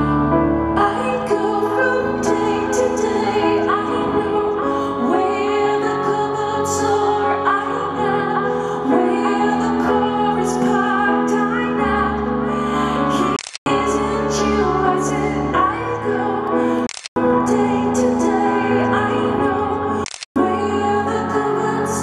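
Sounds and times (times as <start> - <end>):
woman singing: 0.6 - 22.0.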